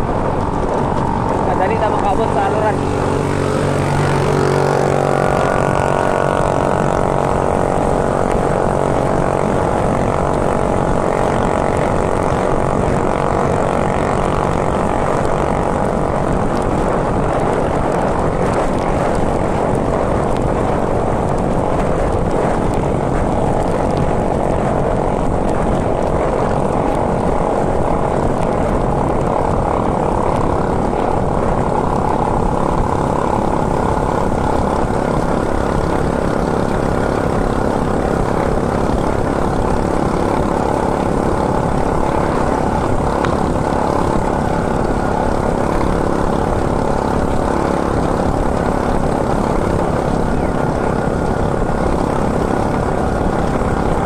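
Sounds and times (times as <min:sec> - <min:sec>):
bike road noise: 0:00.0 - 0:54.0
constant low hum: 0:00.0 - 0:54.0
wind rushing: 0:00.0 - 0:54.0.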